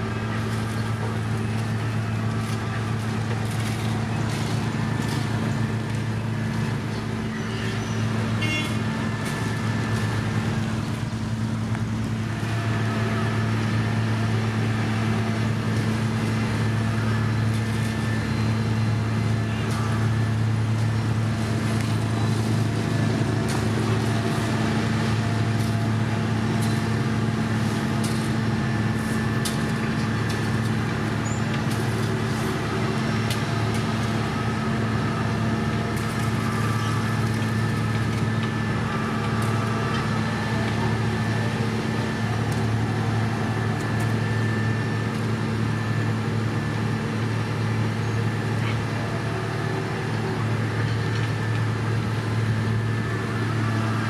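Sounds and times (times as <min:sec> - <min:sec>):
diesel machinery humming: 0:00.0 - 0:54.0.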